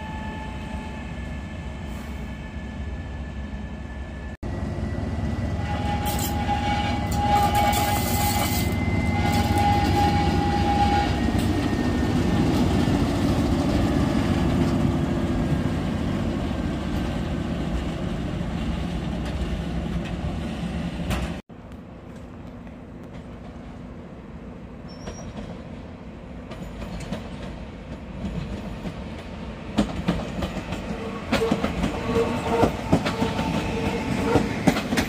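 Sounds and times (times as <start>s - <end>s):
diesel locomotive engine rumbling: 0.0s - 35.0s.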